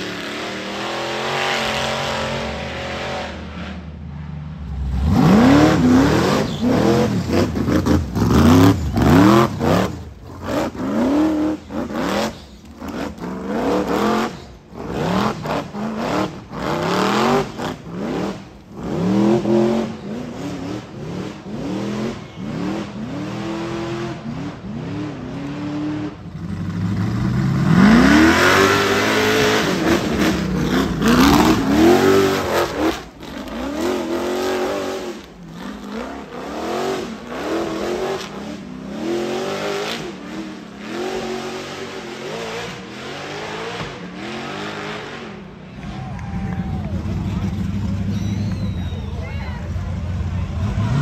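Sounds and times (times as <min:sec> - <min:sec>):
race vehicle engine revving: 0:00.0 - 0:51.0.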